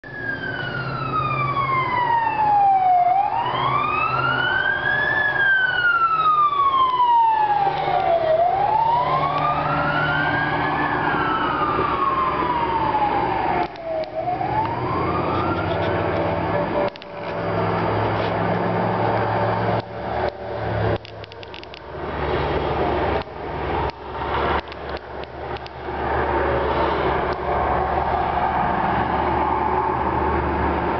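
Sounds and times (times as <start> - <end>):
emergency siren wailing: 0.0 - 30.9.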